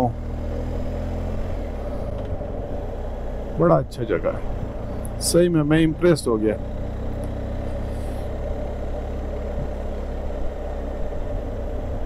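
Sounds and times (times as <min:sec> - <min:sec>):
motorcycle engine rumbling: 0:00.0 - 0:12.0
road noise: 0:00.0 - 0:12.0.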